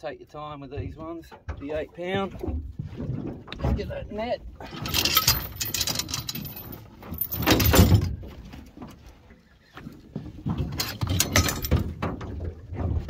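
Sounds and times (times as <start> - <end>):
knocks and bumps in metal boat: 0.6 - 9.0, 9.9 - 13.0.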